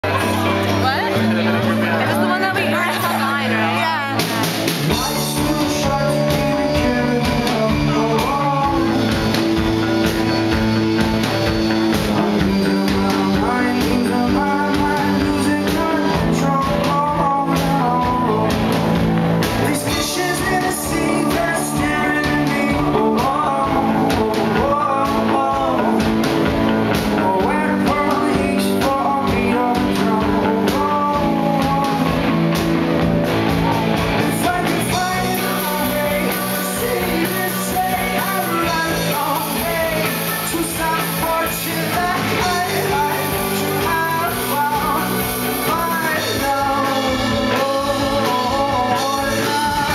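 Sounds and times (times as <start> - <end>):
electric guitar: 0.0 - 49.9
person singing: 0.0 - 49.9
steady drum beat: 0.0 - 49.9.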